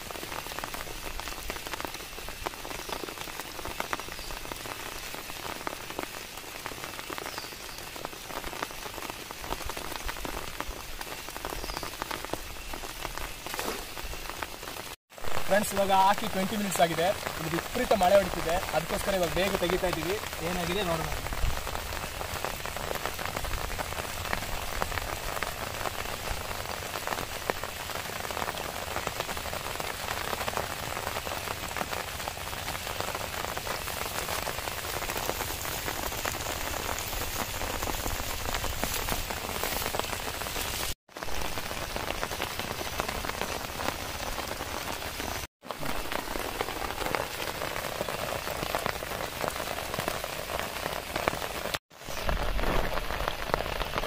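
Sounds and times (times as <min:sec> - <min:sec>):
heavy rain on water and grass: 0:00.0 - 0:54.0.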